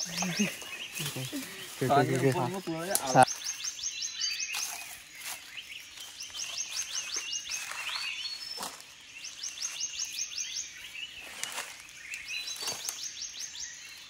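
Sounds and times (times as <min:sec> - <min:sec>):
hands rustling in dry leaves: 0:00.0 - 0:14.0.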